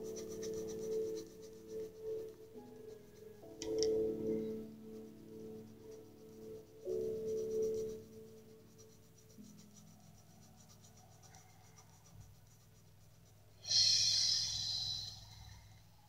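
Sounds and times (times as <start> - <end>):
marker scratching on paper: 0.0 - 13.6.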